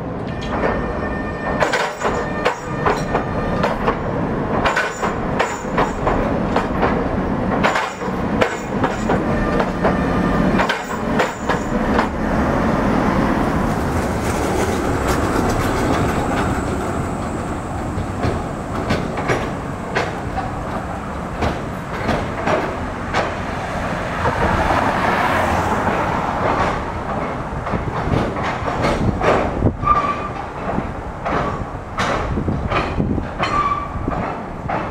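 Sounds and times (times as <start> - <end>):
tram rumbling: 0.0 - 34.9
tram wheels clacking over rails: 0.0 - 34.9.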